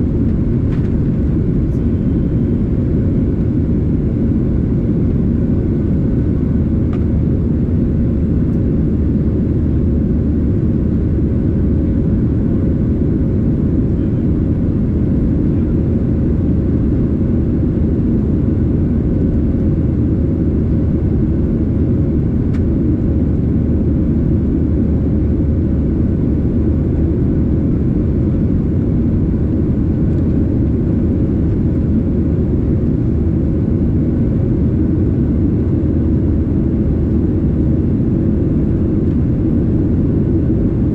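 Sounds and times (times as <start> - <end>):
faint constant hum: 0.0 - 40.9
jet engines running: 0.0 - 40.9.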